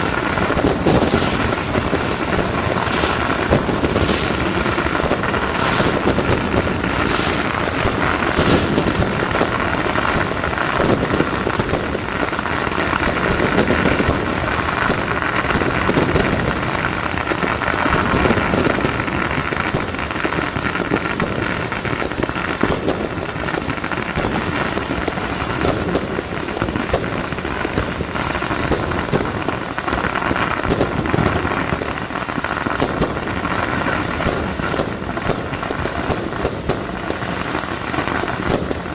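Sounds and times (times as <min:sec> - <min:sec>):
fireworks and firecrackers crackling: 0:00.0 - 0:38.9.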